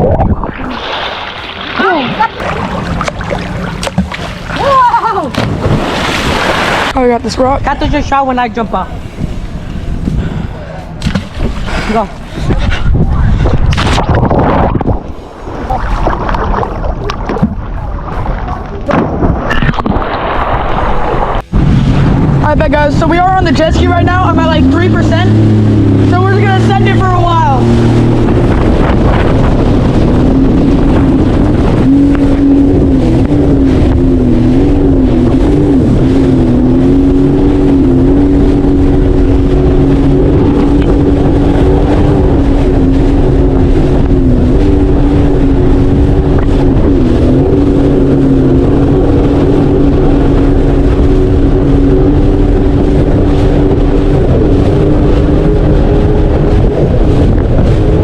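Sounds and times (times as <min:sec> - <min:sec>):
jet ski engine running: 0:00.0 - 0:19.6, 0:20.6 - 0:58.0.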